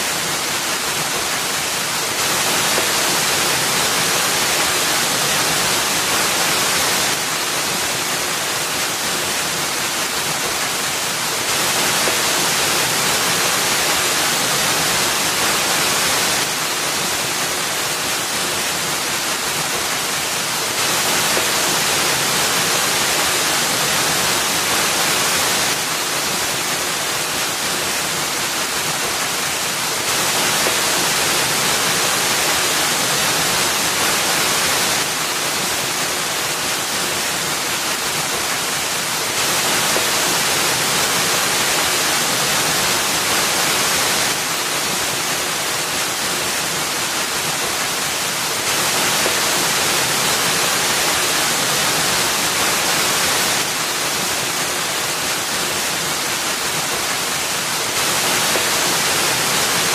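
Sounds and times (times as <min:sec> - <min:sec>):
water falling into a pool: 0:00.0 - 0:59.9.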